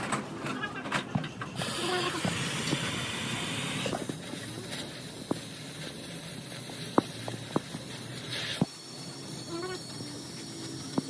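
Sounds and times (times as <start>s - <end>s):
steady hissing: 1.6s - 11.0s.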